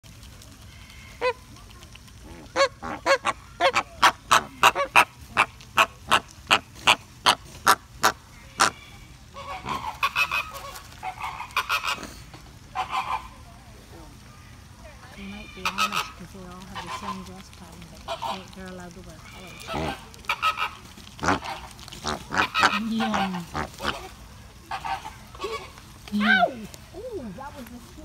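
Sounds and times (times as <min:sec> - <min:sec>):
flamingos honking: 0:00.0 - 0:28.0.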